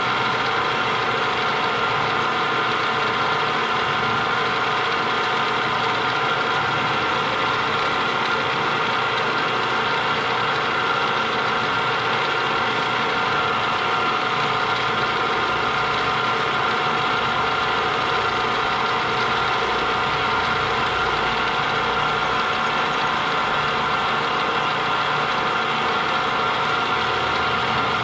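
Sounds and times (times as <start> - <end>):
milling machine humming: 0.0 - 28.0.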